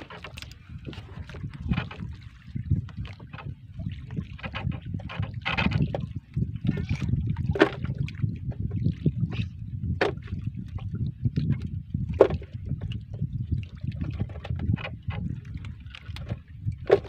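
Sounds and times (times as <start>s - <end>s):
knocks and splashes: 0.0s - 17.0s
low rumble of wind: 0.0s - 17.0s
water lapping against boat hull: 0.0s - 17.0s.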